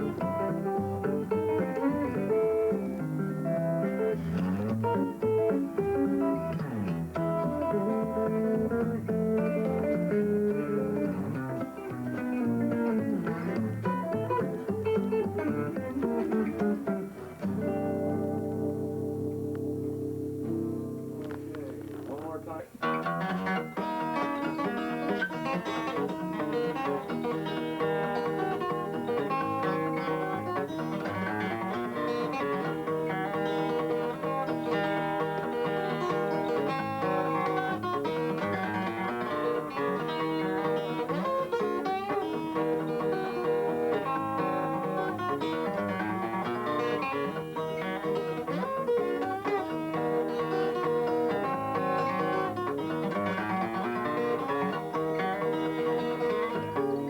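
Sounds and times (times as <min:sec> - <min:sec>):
thumbpicked guitar: 0:00.0 - 0:57.0.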